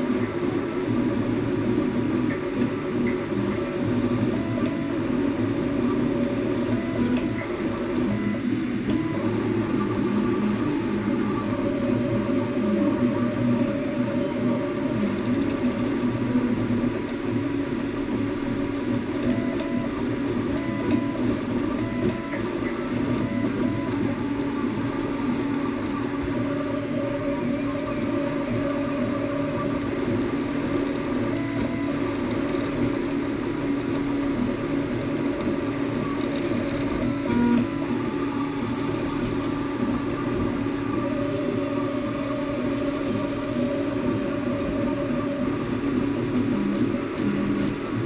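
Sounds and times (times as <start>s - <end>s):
printer whir: 0.0s - 48.0s
stepper motors whining: 0.0s - 48.0s.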